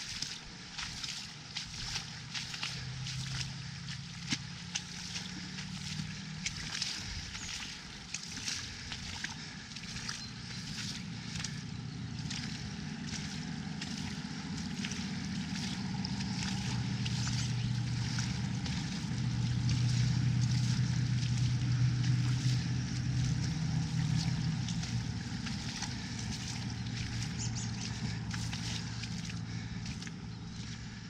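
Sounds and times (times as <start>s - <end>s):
distant engine hum: 0.0s - 31.0s
footsteps on muddy path: 0.0s - 31.0s.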